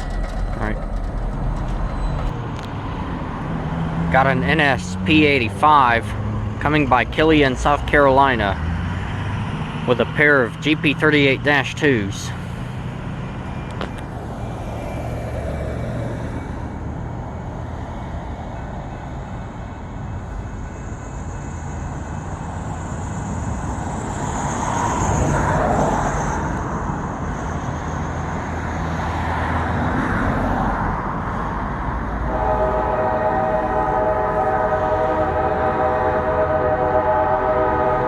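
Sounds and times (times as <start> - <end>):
diesel locomotive engine rumble: 0.0 - 38.0.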